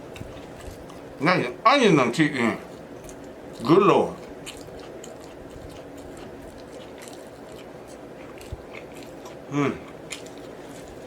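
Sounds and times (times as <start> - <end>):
close chewing and mouth sounds: 0.0 - 1.6, 2.2 - 11.0.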